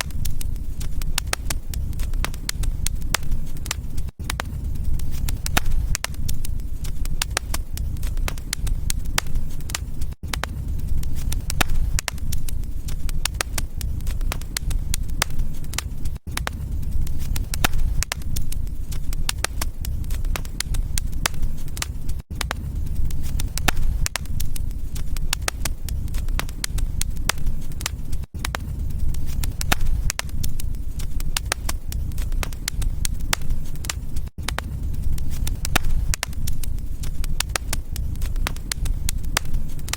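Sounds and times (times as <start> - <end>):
steady low rumble: 0.0 - 39.9
wood fire crackling and popping: 0.0 - 39.9.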